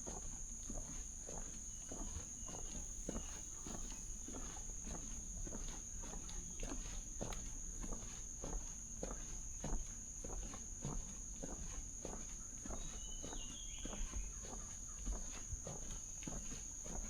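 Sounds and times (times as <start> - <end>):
footsteps on trail: 0.1 - 17.0.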